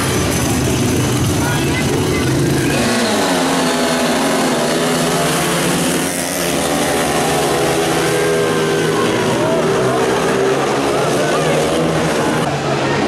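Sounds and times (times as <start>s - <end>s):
motorcycle engines racing: 0.0s - 13.0s.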